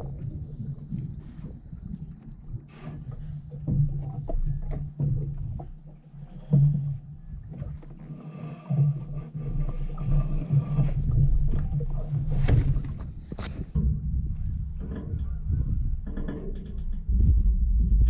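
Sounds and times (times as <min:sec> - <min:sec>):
wind buffeting microphone: 0:00.0 - 0:05.8, 0:09.1 - 0:18.0
paddle knocks and splashes: 0:00.0 - 0:08.0, 0:08.8 - 0:17.7.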